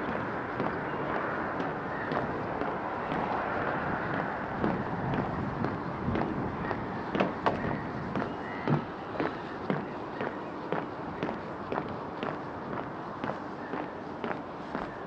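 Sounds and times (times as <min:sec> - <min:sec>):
footsteps outdoors: 0:00.0 - 0:15.0
steady background rush: 0:00.0 - 0:15.0.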